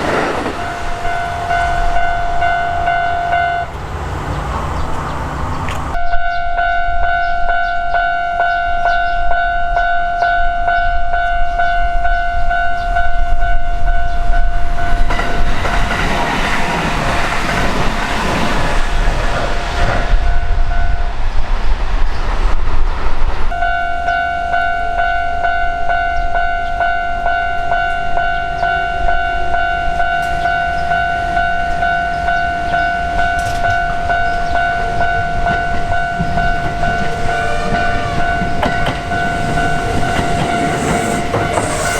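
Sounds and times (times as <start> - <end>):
level-crossing warning bell dinging: 0.0 - 4.9, 5.9 - 18.0, 20.2 - 21.2, 23.5 - 41.9
train rumble and wheel clatter: 0.0 - 41.9.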